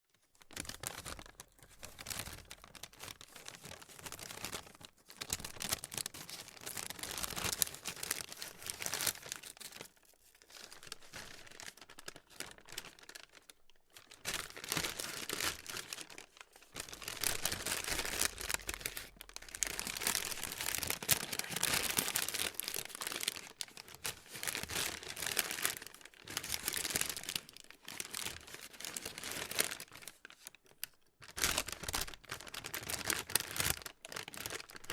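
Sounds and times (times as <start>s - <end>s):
plastic crinkling by hand: 0.1s - 34.9s.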